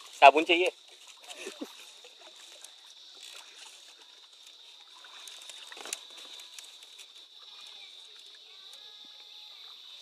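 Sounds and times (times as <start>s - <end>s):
water sloshing around boat: 0.0s - 10.0s.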